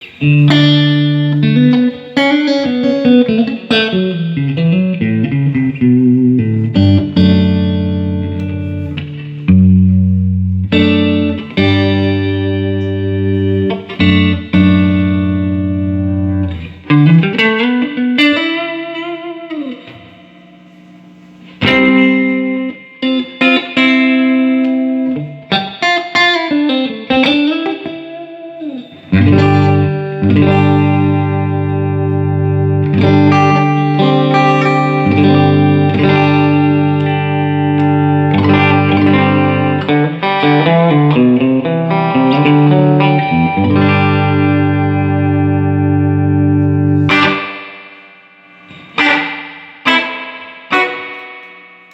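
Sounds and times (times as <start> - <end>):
electric guitar chords and bends: 0.0 - 51.9.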